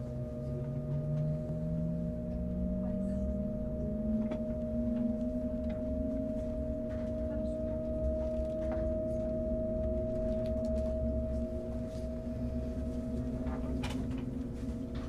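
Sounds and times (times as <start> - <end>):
constant high tone: 0.0 - 15.0
rising whine: 0.0 - 15.0
train interior low rumble: 0.0 - 15.0.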